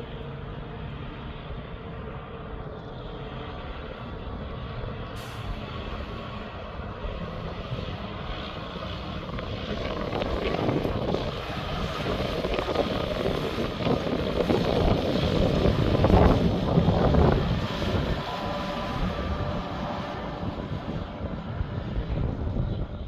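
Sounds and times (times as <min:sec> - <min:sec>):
truck engine rumble and road noise: 0:00.0 - 0:23.0.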